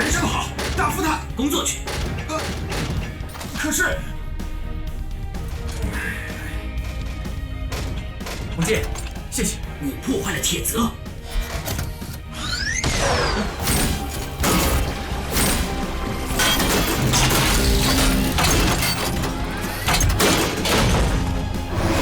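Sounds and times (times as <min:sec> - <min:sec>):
cartoon background music: 0:00.0 - 0:22.0.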